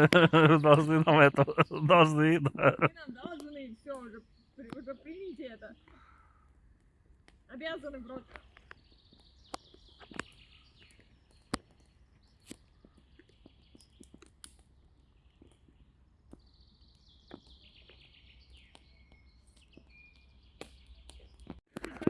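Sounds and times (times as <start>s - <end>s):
songbird singing: 0.0s - 6.4s, 7.9s - 21.6s.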